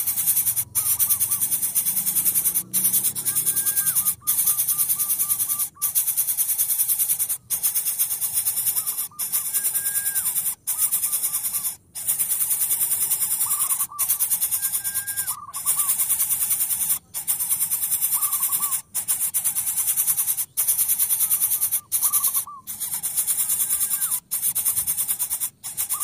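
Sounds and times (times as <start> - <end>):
high-pitched insect buzz: 0.0 - 26.0
warbling bird calls: 0.0 - 26.0.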